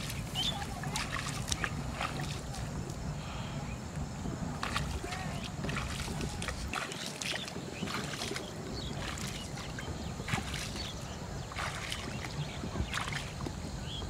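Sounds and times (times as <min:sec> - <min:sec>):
person wading through water: 0:00.0 - 0:03.8, 0:04.4 - 0:14.0.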